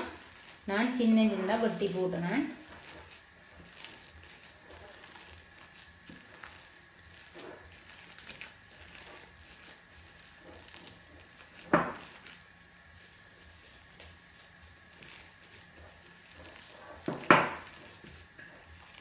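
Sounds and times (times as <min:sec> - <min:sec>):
hands squishing batter: 0:00.0 - 0:19.0.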